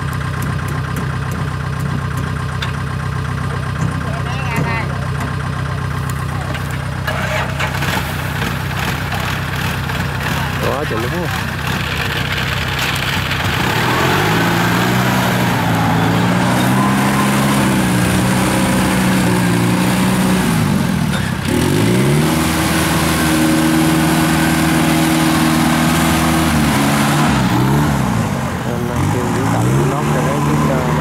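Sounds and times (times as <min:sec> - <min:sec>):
harvester engine running: 0:00.0 - 0:31.0.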